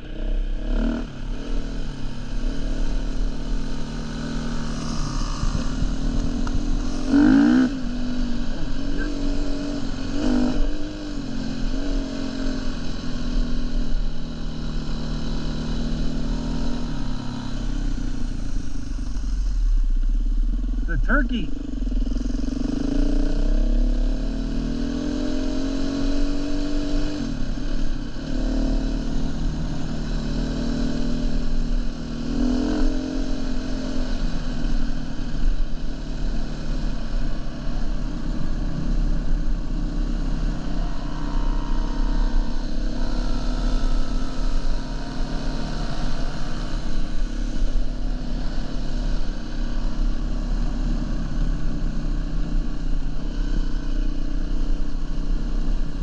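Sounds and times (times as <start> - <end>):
dirt bike engine revving: 0.0 - 19.6, 20.8 - 56.0
low rumble of riding noise: 0.0 - 56.0.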